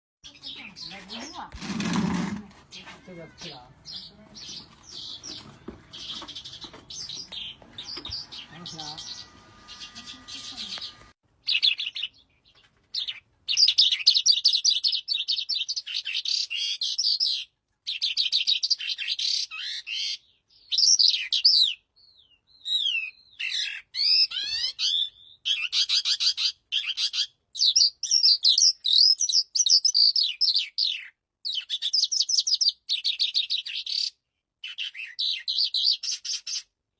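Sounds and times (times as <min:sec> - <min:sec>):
lark singing: 0:02.7 - 0:12.3, 0:13.0 - 0:36.7.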